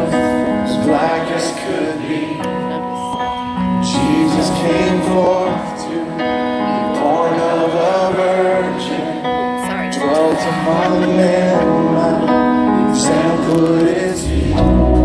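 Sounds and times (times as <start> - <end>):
band playing held chords: 0.0 - 15.0.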